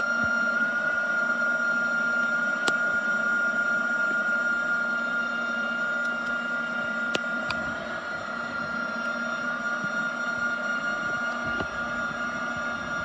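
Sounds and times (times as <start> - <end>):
magnetic drill motor whine: 0.0 - 13.0
metal cutting: 0.0 - 13.0.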